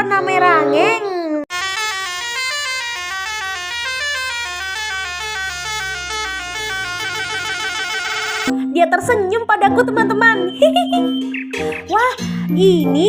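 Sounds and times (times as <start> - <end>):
bright electronic melody: 0.0 - 13.0.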